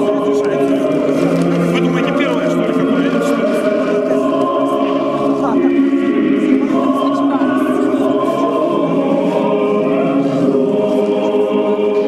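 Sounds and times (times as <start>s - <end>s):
choir chanting: 0.0s - 12.0s.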